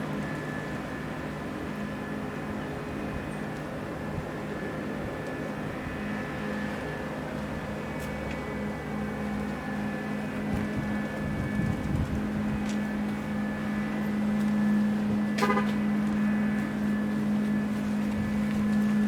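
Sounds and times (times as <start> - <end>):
engines idling hum: 0.0 - 19.0.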